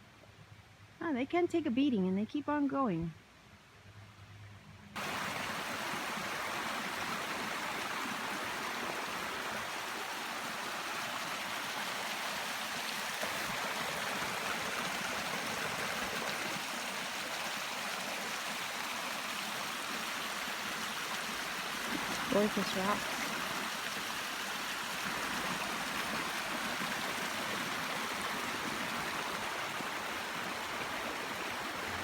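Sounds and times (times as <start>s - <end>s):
stream flowing over rocks: 5.0s - 32.0s.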